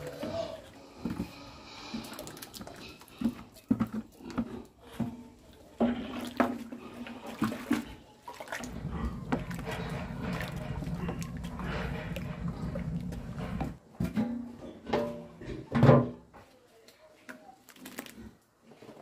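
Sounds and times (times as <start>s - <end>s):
bucket and paddle clanking on pan: 0.0s - 16.3s.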